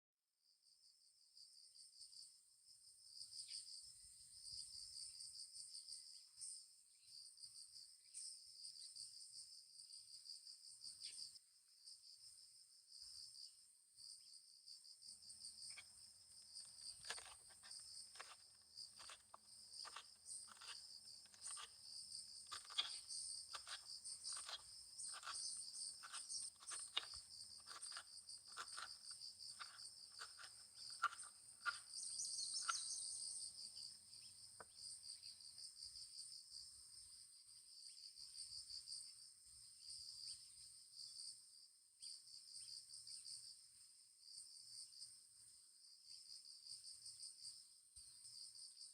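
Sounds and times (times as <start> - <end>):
insects chirping trill: 0.6 - 48.9.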